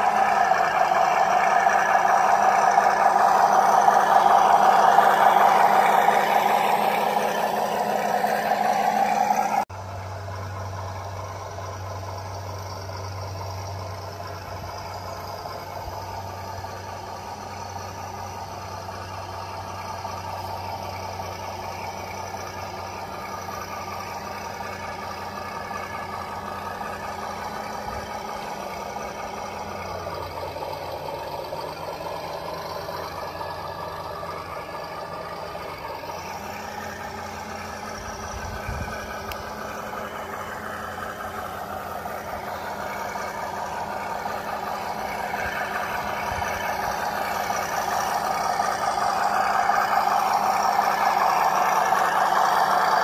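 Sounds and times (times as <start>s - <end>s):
model truck motor and gears: 0.0s - 53.0s.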